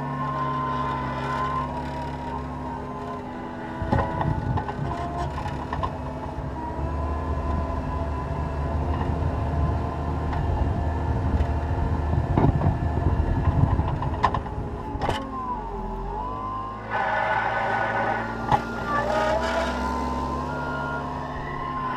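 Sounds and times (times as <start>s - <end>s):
diesel engine under load: 0.0s - 21.9s.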